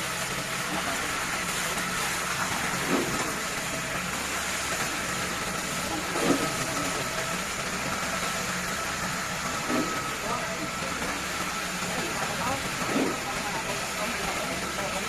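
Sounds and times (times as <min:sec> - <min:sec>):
heavy machinery hum and hiss: 0:00.0 - 0:15.0.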